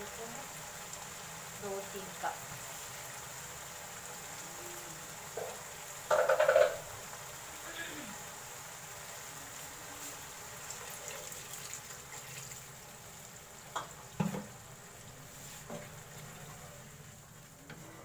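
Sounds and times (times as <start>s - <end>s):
curry bubbling in a wok: 0.0s - 18.0s.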